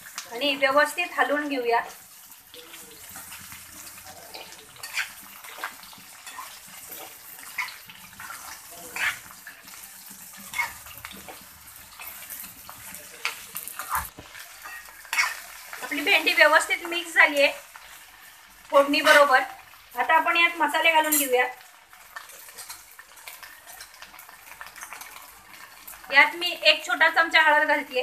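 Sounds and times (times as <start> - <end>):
okra sizzling in hot oil: 0.0 - 28.0.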